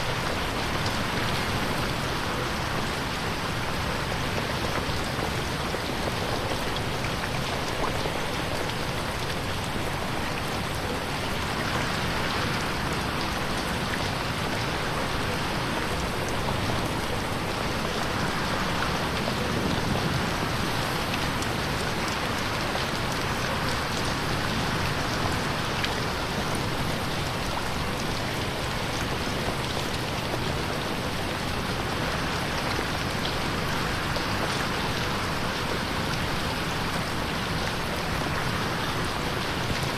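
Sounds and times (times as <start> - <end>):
rain pattering on a window: 0.0 - 39.9.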